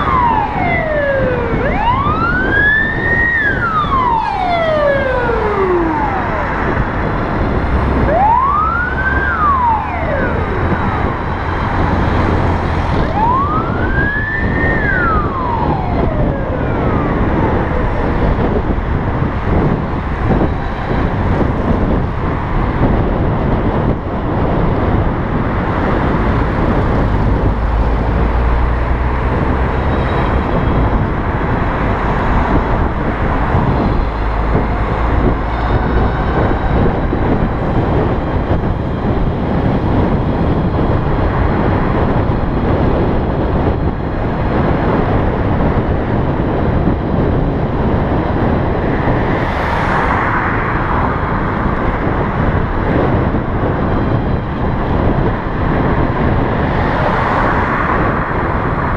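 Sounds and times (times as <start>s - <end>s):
road and traffic noise: 0.0s - 58.9s.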